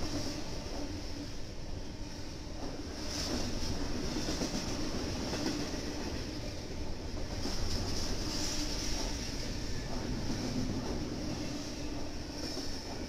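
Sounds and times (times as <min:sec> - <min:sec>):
freight train passing: 0:00.0 - 0:13.0
steel wheels on rails: 0:00.0 - 0:13.0.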